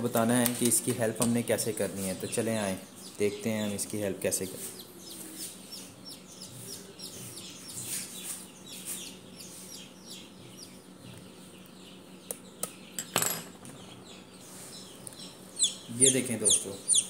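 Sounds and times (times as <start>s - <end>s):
chick peeping: 1.2s - 13.0s, 13.7s - 17.0s.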